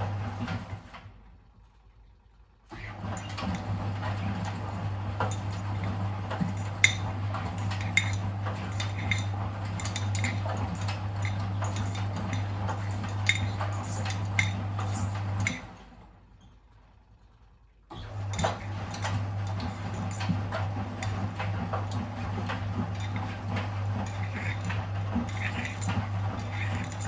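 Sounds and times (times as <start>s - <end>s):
washing machine motor hum: 0.0s - 27.0s.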